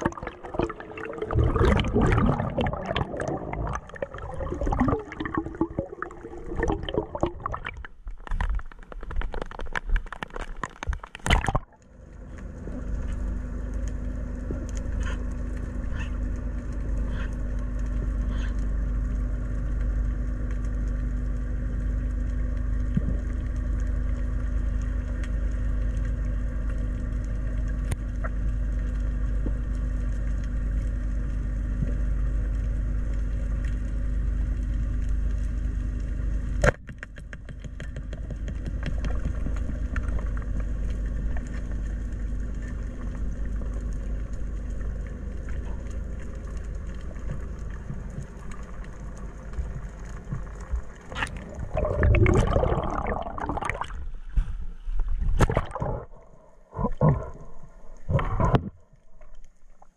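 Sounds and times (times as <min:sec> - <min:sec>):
constant hum: 0:00.0 - 0:59.9
low underwater rumble: 0:00.0 - 0:59.9.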